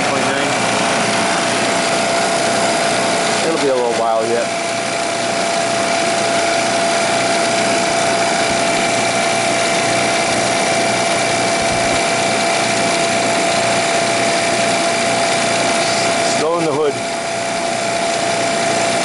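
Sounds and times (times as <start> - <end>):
machine humming with high whine: 0.0 - 19.0.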